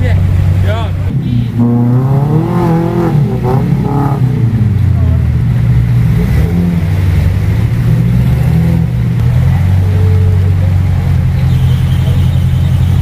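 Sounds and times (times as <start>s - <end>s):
off-road vehicle engine: 0.0s - 13.0s.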